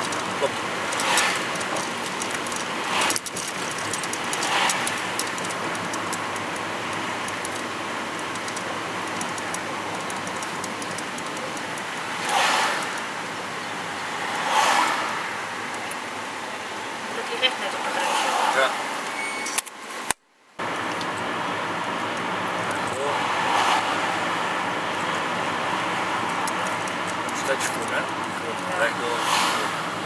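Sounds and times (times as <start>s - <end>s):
road and engine noise in car: 0.0s - 30.0s.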